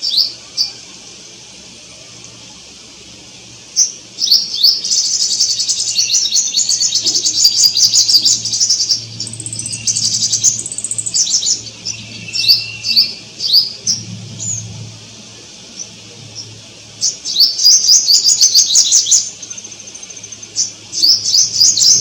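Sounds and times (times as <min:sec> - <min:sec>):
faint steady low hum: 0:00.0 - 0:22.0
songbirds chirping and trilling: 0:00.0 - 0:22.0.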